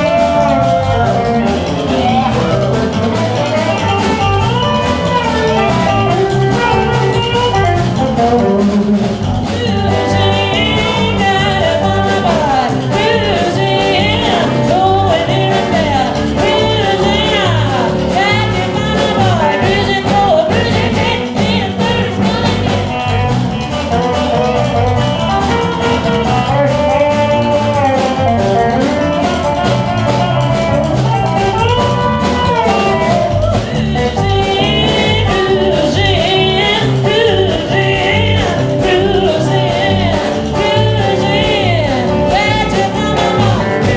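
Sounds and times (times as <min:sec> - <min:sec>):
drum kit beat: 0:00.0 - 0:43.9
electric guitar: 0:00.0 - 0:43.9
live rock band playing: 0:00.0 - 0:43.9
person singing: 0:00.0 - 0:43.9.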